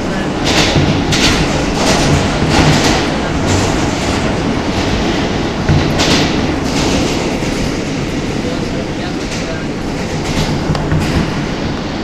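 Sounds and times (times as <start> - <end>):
subway wheels rumbling on rail: 0.0 - 12.0
wheels clacking over rail joints: 0.0 - 12.0.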